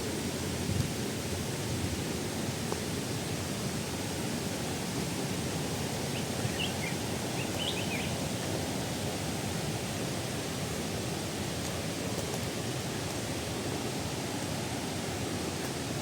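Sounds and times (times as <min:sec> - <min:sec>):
waterfall rushing and splashing: 0:00.0 - 0:16.0.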